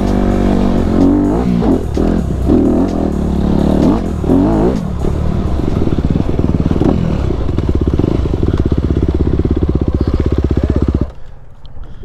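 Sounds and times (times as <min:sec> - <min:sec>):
dirt bike engine pulsing: 0:00.0 - 0:11.4.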